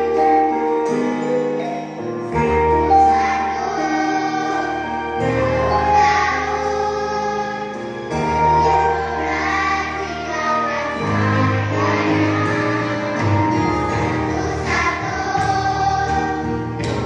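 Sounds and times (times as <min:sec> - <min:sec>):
musical accompaniment: 0:00.0 - 0:17.0
children singing together: 0:02.4 - 0:17.0.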